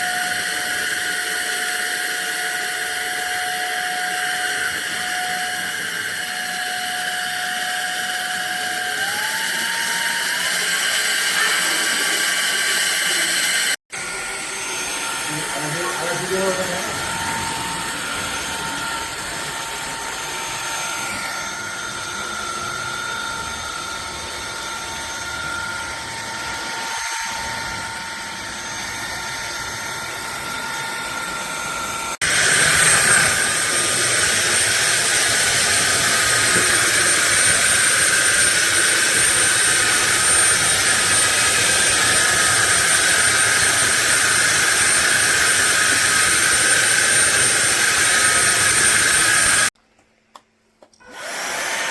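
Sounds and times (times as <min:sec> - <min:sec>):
vacuum cleaner motor whining: 0:00.0 - 0:49.8, 0:51.0 - 0:51.9.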